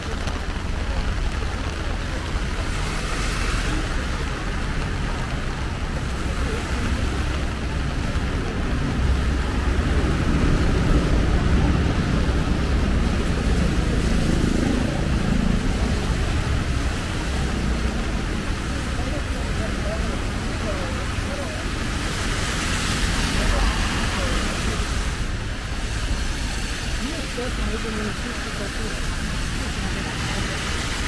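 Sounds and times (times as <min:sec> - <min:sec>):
heavy rain on an umbrella: 0:00.0 - 0:31.0.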